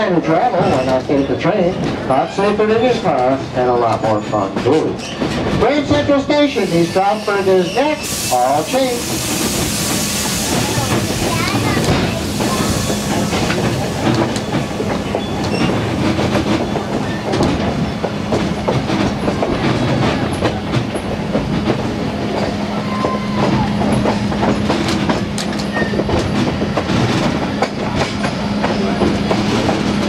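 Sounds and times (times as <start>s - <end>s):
train wheels rumbling on rails: 0.0s - 30.0s
wheels clicking over rail joints: 0.1s - 30.0s.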